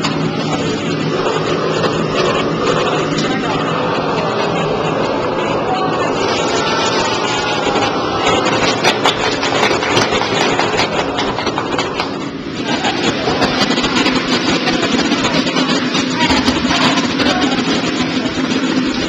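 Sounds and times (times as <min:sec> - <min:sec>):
wok range and extractor noise: 0:00.0 - 0:19.0.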